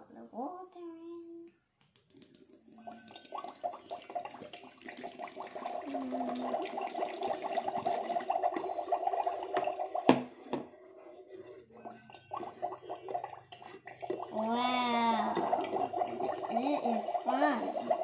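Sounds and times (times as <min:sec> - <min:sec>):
water glugging from plastic bottle: 0:02.0 - 0:10.7, 0:11.7 - 0:18.0.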